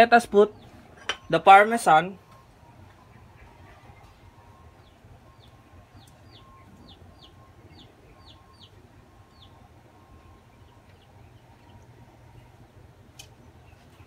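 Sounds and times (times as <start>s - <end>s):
bird chirping: 0.2s - 12.7s.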